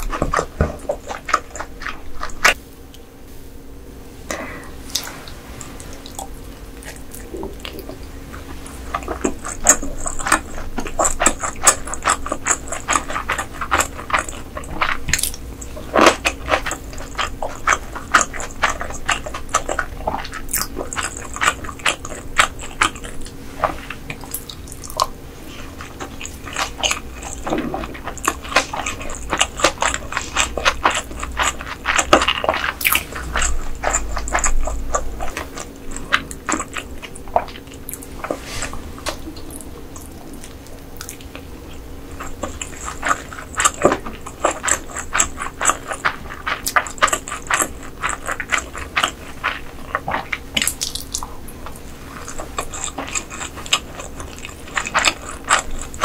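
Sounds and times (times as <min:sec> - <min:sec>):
wet chewing and smacking: 0:00.0 - 0:02.6, 0:04.9 - 0:56.0.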